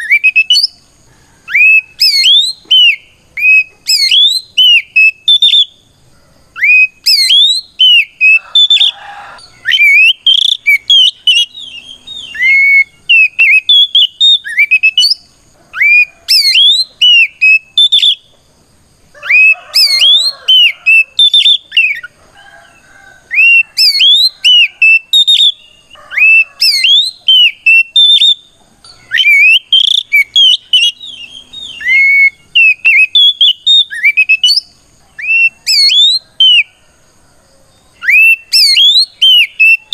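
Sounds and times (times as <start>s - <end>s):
bird singing whistled song: 0.0s - 0.8s, 1.4s - 6.0s, 6.6s - 18.4s, 19.2s - 22.2s, 23.3s - 36.8s, 37.8s - 39.9s.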